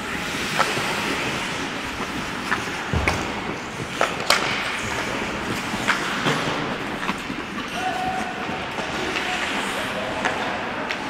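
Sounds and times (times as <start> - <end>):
skate blades scraping ice: 0.0 - 11.0
stick and puck clacks: 0.0 - 11.0.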